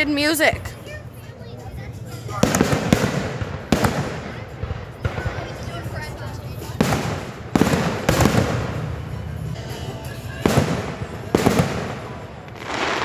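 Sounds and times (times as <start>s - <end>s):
fireworks banging: 2.3s - 13.0s
fireworks crackling: 2.3s - 13.0s.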